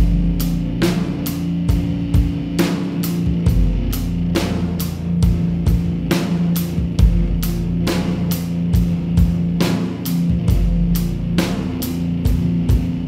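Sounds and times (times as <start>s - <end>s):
drum kit beat: 0.0s - 13.0s
rock music: 0.0s - 13.0s.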